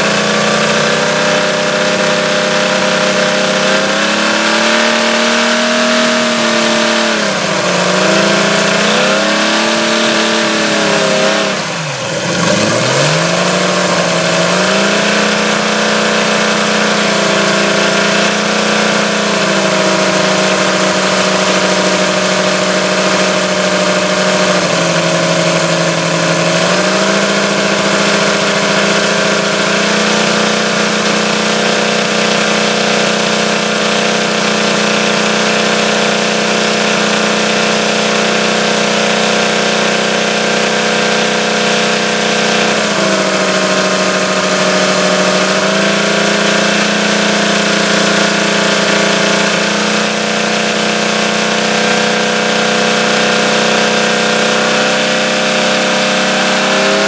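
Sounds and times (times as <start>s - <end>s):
model aircraft engine running: 0.0s - 57.0s.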